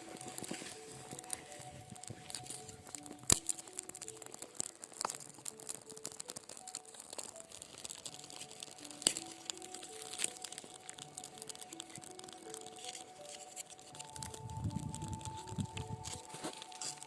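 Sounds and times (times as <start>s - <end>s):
crackling and sharp clicks: 0.0s - 17.0s
quiet background music: 0.0s - 17.0s.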